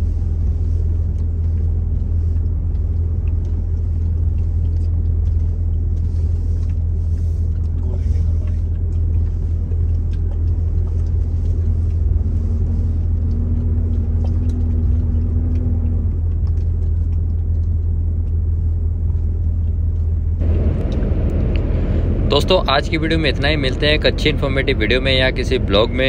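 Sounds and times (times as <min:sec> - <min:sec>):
road noise: 0:00.0 - 0:26.0
truck engine rumble: 0:00.0 - 0:26.0.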